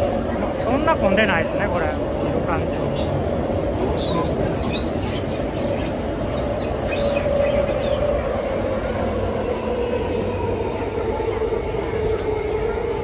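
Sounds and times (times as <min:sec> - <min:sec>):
high squeals of train: 0:00.0 - 0:13.0
train rumbling on track: 0:00.0 - 0:13.0.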